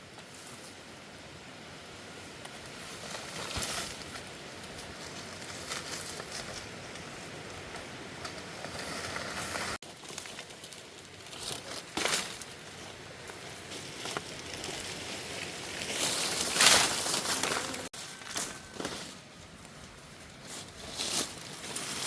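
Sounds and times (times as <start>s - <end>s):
rustling and crinkling handling noise: 2.4s - 22.0s.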